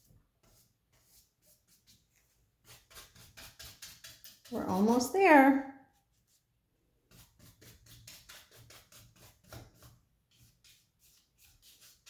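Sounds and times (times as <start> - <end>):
paintbrush strokes on canvas: 0.0 - 12.0.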